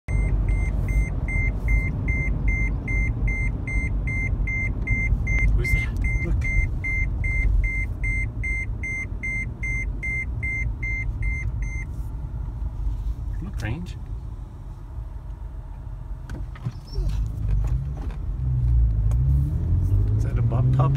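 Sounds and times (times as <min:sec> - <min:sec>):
car cabin road rumble: 0:00.1 - 0:20.9.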